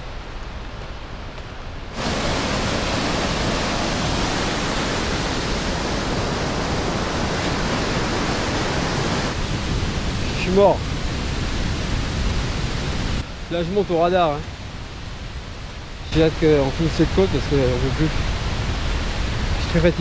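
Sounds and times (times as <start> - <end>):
mountain torrent rushing: 0.0 - 20.0.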